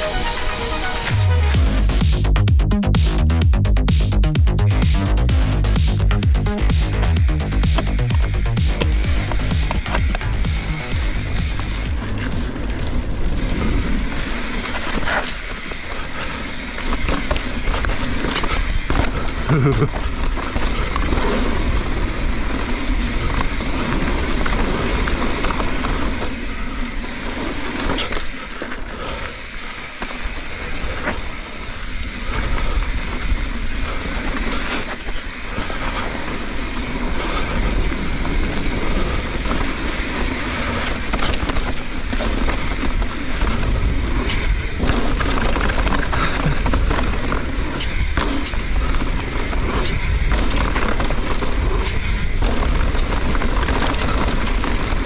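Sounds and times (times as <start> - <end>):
tyres rolling on dirt: 4.7 - 55.0
bike knocks and rattles: 4.8 - 55.0.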